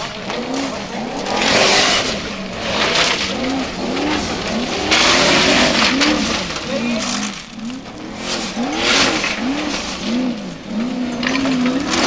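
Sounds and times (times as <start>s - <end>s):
buggy engine revving: 0.0s - 12.0s
tyres spinning on gravel: 0.0s - 12.0s.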